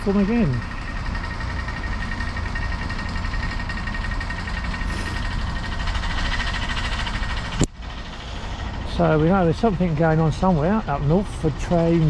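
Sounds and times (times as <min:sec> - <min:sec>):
train diesel engine idling: 0:00.0 - 0:12.0.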